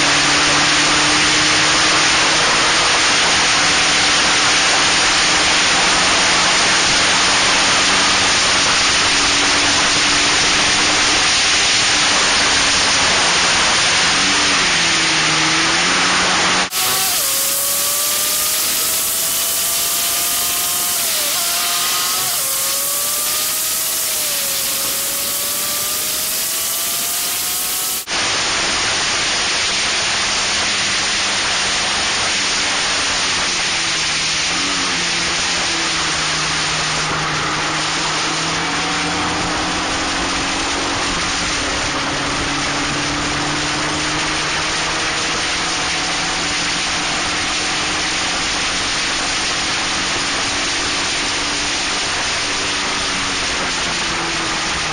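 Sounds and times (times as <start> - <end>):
racing car engine accelerating: 0.0 - 54.9.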